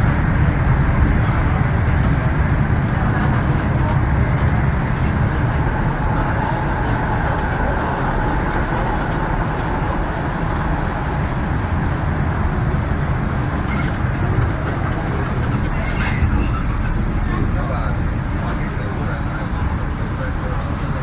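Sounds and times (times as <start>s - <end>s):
train rumbling through tunnel: 0.0s - 21.0s.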